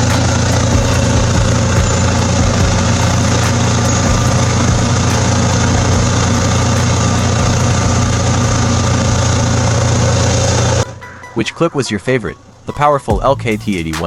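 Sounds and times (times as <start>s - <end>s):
heavy machine engine droning: 0.0s - 12.7s.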